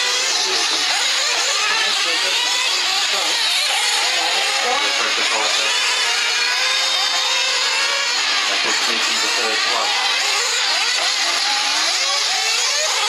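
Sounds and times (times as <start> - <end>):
rc car engines revving: 0.0 - 13.0.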